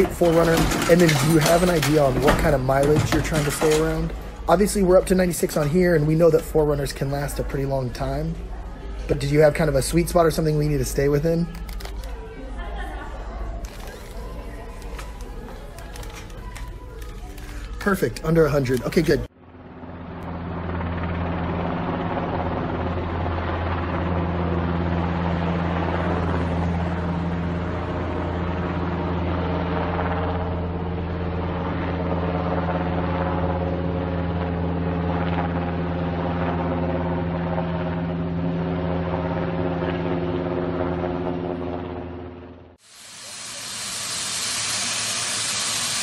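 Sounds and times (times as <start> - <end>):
helicopter flying overhead: 0.0 - 46.0.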